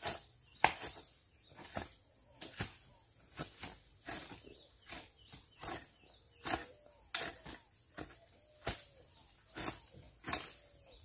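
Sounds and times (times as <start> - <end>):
hoe chopping into soil: 0.0 - 10.9.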